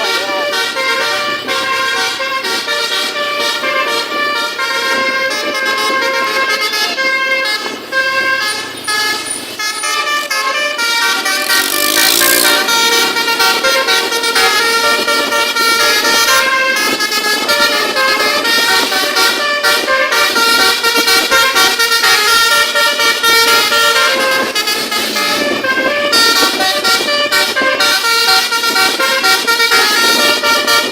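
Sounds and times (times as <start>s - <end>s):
multi-tone air horn melody: 0.0s - 30.9s.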